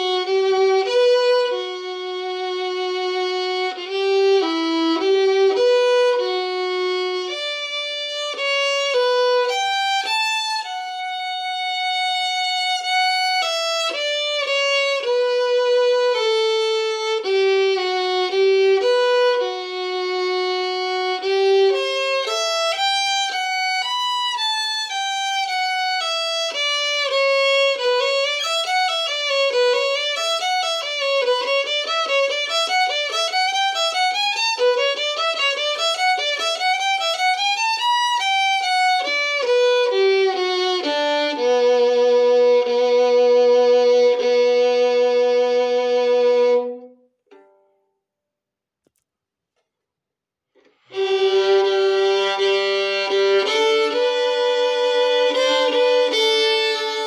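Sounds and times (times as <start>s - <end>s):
solo violin: 0.0s - 47.6s, 50.6s - 57.0s.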